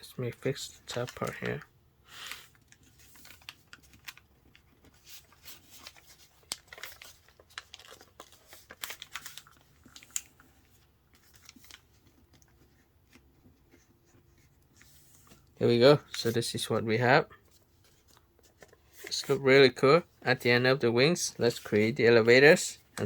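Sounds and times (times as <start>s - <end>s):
paper crinkling and crackling: 0.5s - 16.8s, 17.4s - 23.0s.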